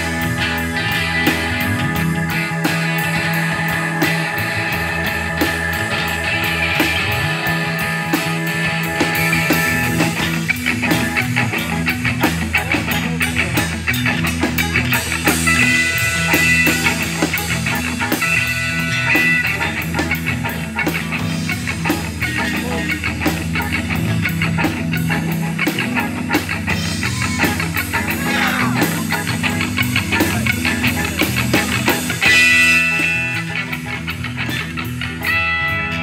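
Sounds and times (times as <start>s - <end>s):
high held melodic line: 0.0s - 36.0s
live rock band playing: 0.0s - 36.0s.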